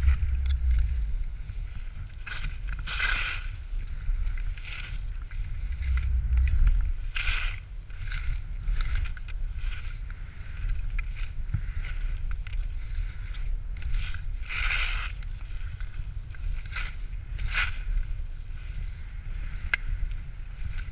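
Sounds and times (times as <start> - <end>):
skis scraping through snow: 0.0 - 20.9
wind rumble on microphone: 0.0 - 20.9.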